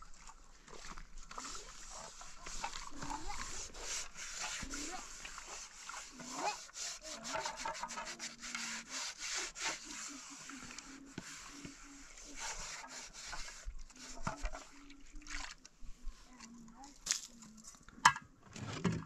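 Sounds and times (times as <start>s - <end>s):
pan being scrubbed: 0.7s - 17.0s.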